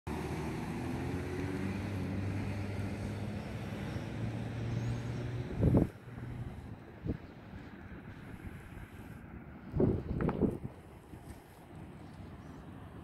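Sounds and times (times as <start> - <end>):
low motor drone: 0.1 - 13.0.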